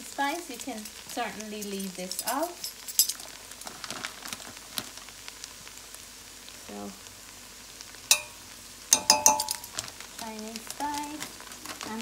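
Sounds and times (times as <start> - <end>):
rice and onion frying in oil: 0.0 - 12.0.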